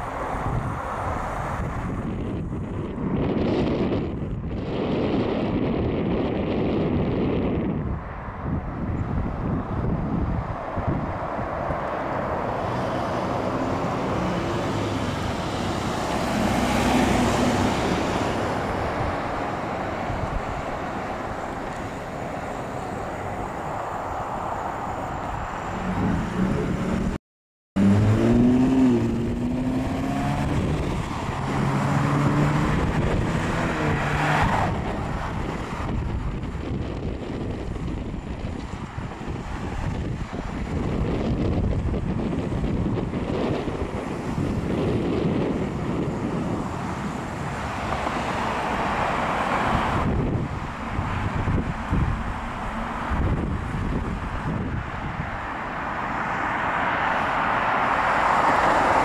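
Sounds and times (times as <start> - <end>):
cars driving past: 0.0 - 5.4, 7.2 - 27.2, 27.8 - 59.0.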